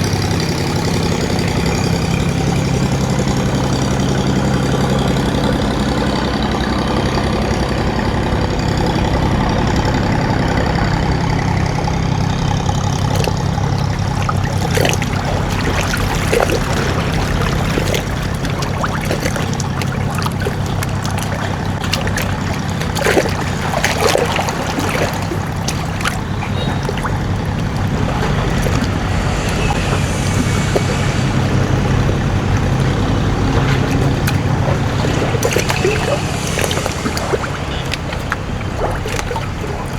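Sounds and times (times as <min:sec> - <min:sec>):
boat engine running: 0:00.0 - 0:39.9
water splashing and trickling: 0:00.0 - 0:39.9.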